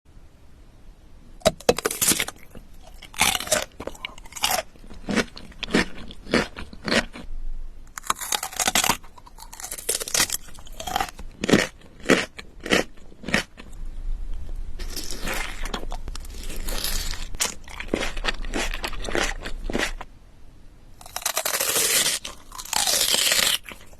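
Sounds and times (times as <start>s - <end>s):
crunchy bites and chewing: 1.4s - 7.3s, 7.9s - 13.8s, 14.8s - 20.1s, 21.0s - 23.9s.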